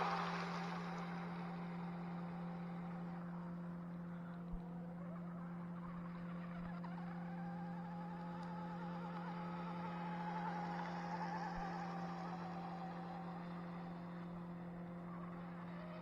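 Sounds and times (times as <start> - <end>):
rc boat electric motor whining: 0.0 - 16.0
steady low hum: 0.0 - 16.0.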